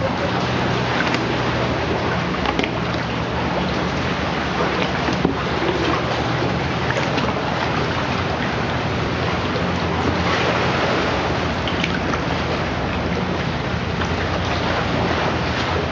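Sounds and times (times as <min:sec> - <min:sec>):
low even hum: 0:00.0 - 0:15.9
water lapping and splashing: 0:00.0 - 0:15.9.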